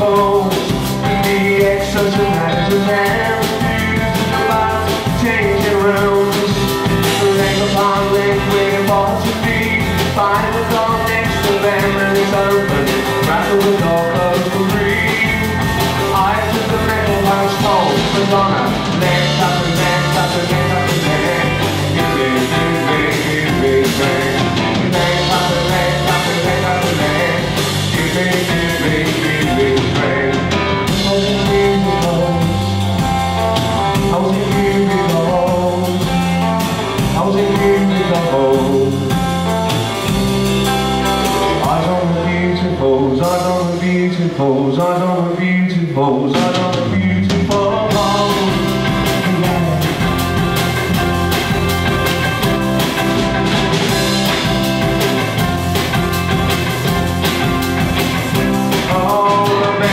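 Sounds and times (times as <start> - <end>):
man singing: 0.0 - 40.0, 40.6 - 53.2, 53.9 - 59.9
drum kit: 0.0 - 59.9
electric bass guitar: 0.0 - 59.9
electric guitar: 0.0 - 59.9.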